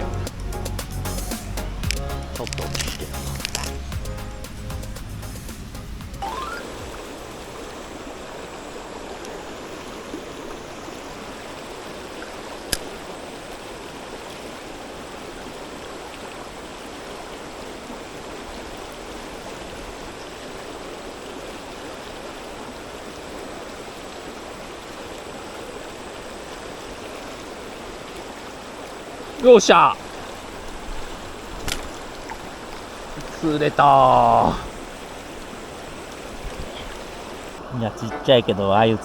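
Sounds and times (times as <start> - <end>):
mountain stream rushing: 0.8 - 39.0.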